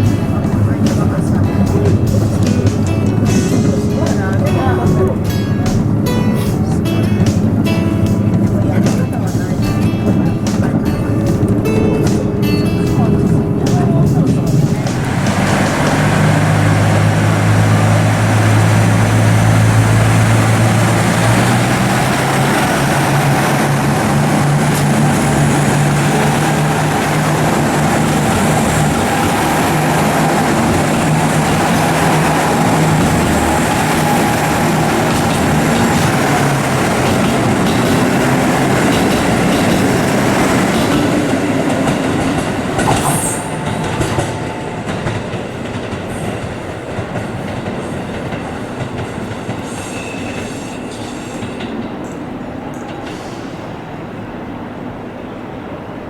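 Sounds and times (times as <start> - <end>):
diesel engine drone: 0.0 - 45.2
wheel-on-rail rumble and hiss: 0.0 - 56.0.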